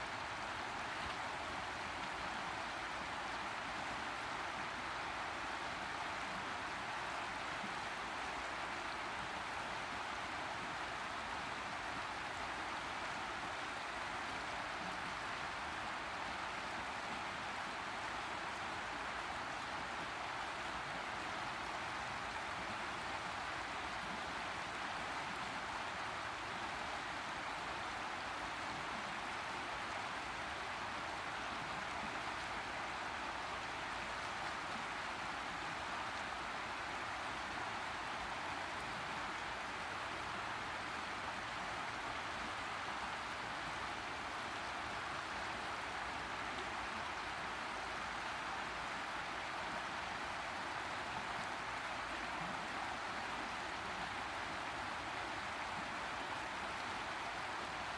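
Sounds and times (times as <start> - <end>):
river flowing over rocks: 0.0 - 57.9.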